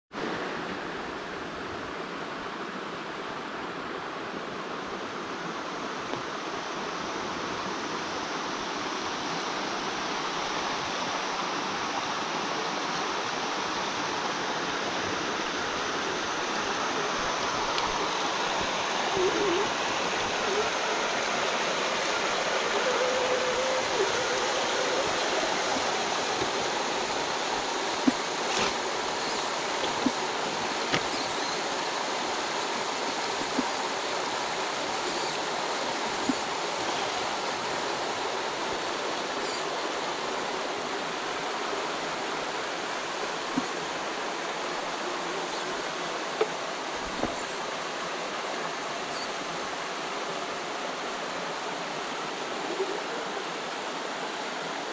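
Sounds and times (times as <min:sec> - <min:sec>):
creek water rushing over rocks: 0:00.1 - 0:54.9.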